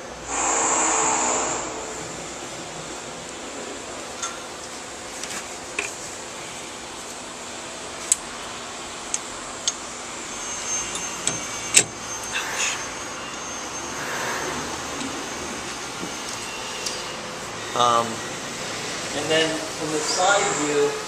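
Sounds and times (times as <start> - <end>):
steady fan-like hiss: 0.0 - 21.0.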